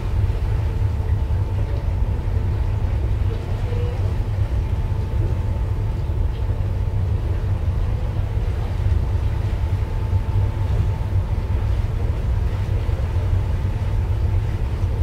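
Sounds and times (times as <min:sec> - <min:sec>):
faint steady hum: 0:00.0 - 0:15.0
ship engine low rumble: 0:00.0 - 0:15.0.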